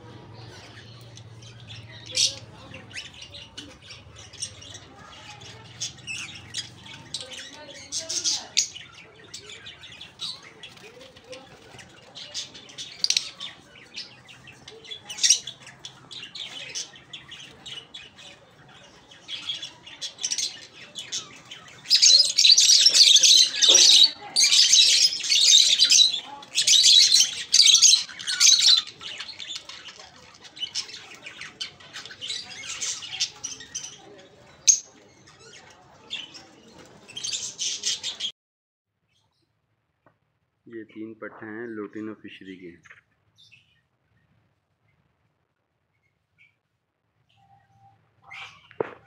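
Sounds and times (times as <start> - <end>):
lovebirds chirping and squawking: 0.0 - 38.3, 40.8 - 45.1, 46.0 - 46.6, 47.2 - 49.0.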